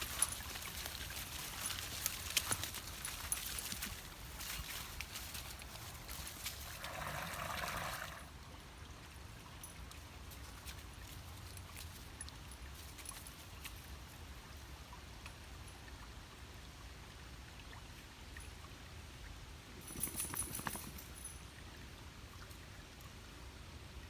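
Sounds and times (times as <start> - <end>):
faint creek water running: 0.0 - 24.0.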